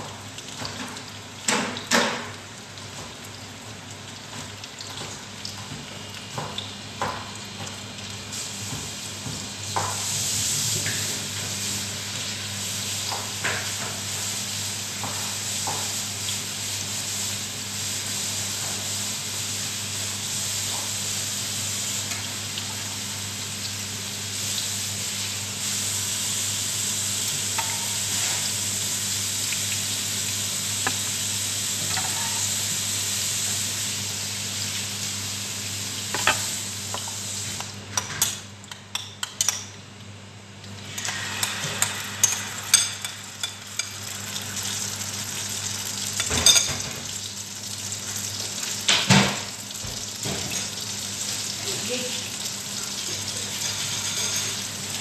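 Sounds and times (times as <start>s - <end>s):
food sizzling in a frying pan: 0.0s - 39.6s, 40.5s - 55.0s.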